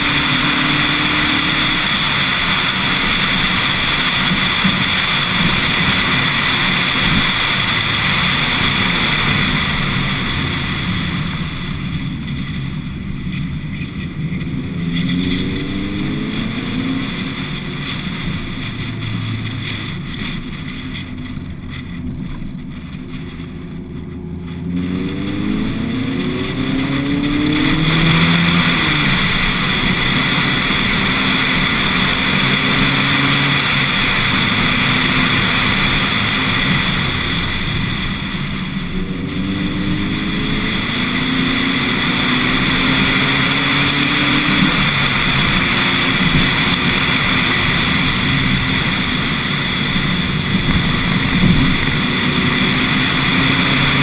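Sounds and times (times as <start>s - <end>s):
car engine pulling under load: 0.0s - 54.0s
wind and road noise: 0.0s - 54.0s.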